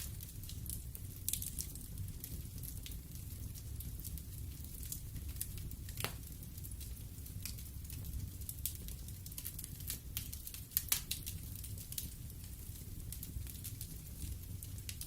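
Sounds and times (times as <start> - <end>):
fire rumbling: 0.0 - 15.0
logs crackling and popping: 0.0 - 15.0.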